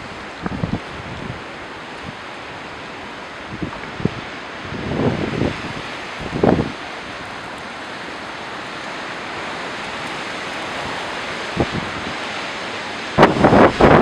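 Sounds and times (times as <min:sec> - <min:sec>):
strong wind rushing: 0:00.0 - 0:14.0
wind gusts buffeting microphone: 0:00.0 - 0:14.0.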